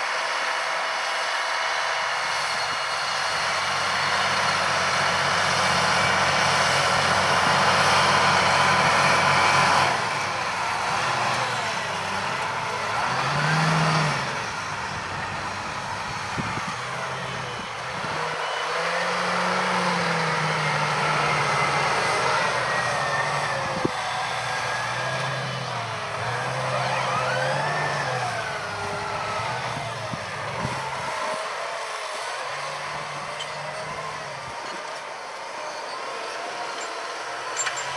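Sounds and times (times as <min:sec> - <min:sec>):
tractor diesel engine under load: 0:00.0 - 0:37.9.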